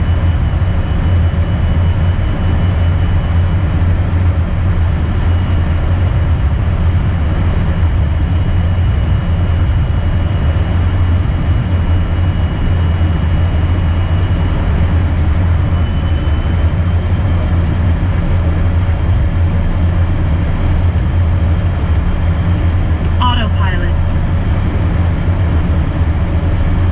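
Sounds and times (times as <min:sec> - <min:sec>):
jet cabin engine and airflow noise: 0:00.0 - 0:26.9.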